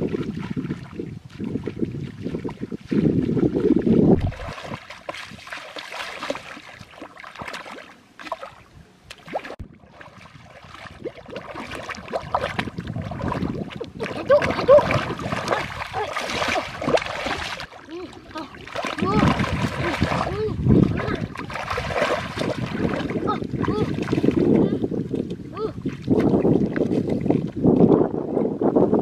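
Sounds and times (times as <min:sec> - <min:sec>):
muddy water splashing: 0:00.0 - 0:28.6.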